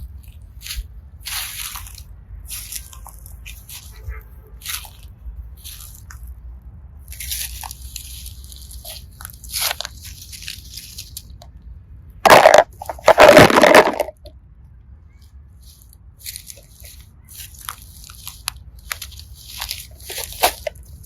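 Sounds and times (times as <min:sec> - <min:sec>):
crunchy slime squishes: 0:00.0 - 0:06.3, 0:07.0 - 0:11.5, 0:12.2 - 0:14.3, 0:15.6 - 0:21.0.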